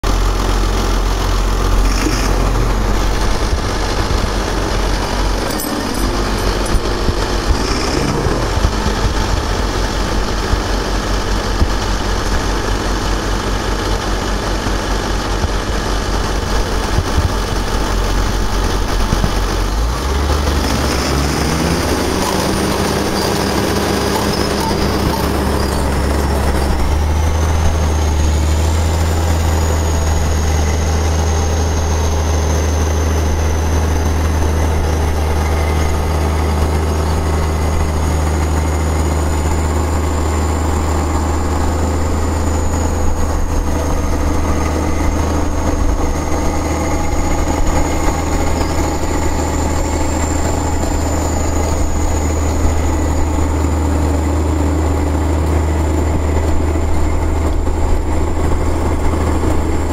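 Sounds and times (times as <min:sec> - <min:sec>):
heavy diesel engines under load: 0:00.0 - 0:59.9.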